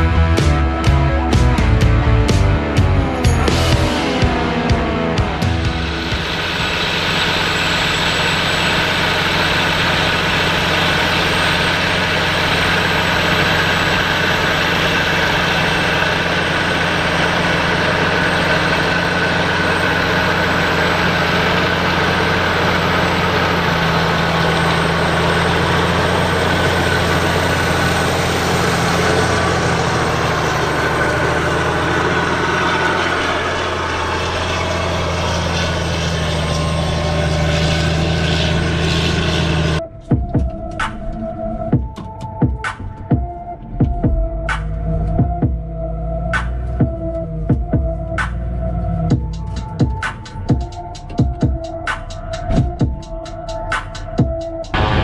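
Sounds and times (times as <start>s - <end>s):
heavy engine droning: 0.0s - 55.0s.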